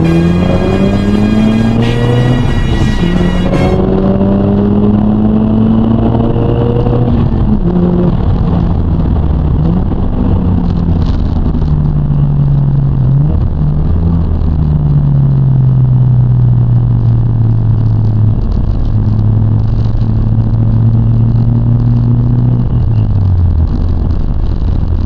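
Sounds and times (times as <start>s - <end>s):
car engine drone: 0.0s - 25.0s
road noise: 0.0s - 25.0s.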